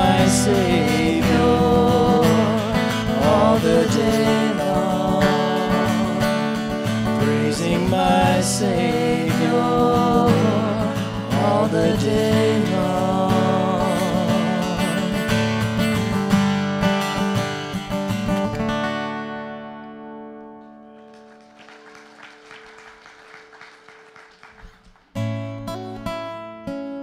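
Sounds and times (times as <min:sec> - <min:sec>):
acoustic guitar strumming: 0:00.0 - 0:21.3, 0:25.1 - 0:27.0.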